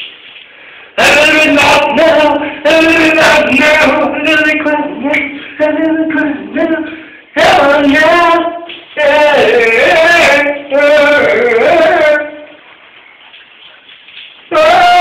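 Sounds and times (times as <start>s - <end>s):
man singing loudly in shower: 0.9s - 12.9s, 14.4s - 15.0s.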